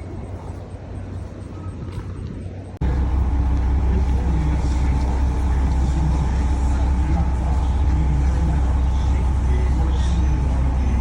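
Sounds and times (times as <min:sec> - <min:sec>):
train engine rumble: 0:00.0 - 0:11.0.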